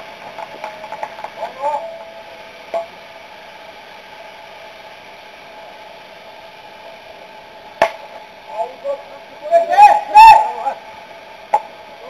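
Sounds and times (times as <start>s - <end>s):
outdoor ballfield hiss: 0.0s - 12.0s.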